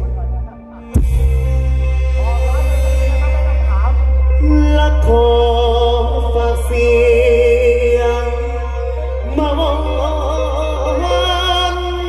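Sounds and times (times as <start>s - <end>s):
deep bass: 0.0s - 12.0s
amplified singing voice: 2.3s - 12.0s.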